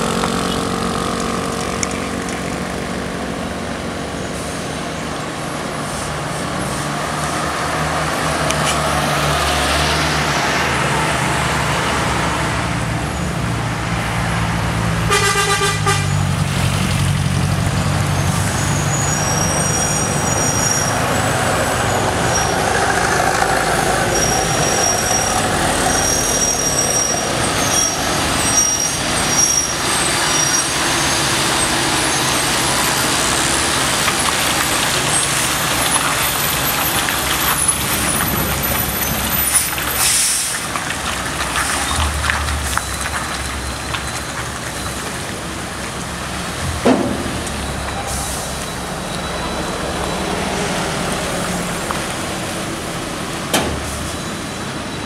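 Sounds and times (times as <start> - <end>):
road traffic: 0.0 - 55.0
truck diesel engine passing: 0.0 - 55.0.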